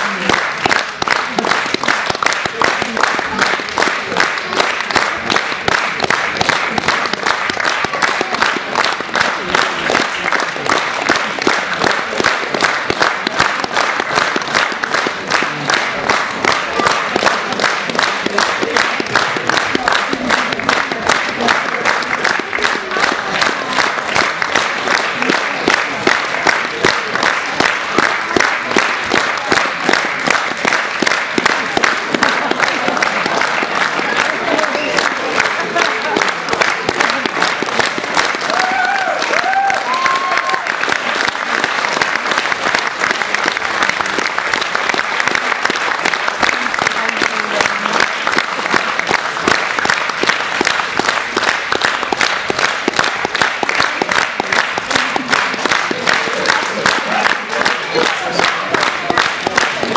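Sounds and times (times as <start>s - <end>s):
audience applauding in rhythm: 0.0s - 59.9s.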